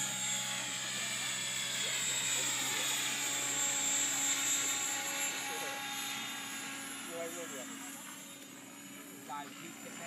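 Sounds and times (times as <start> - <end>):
rc helicopter motor whine: 0.0 - 10.0.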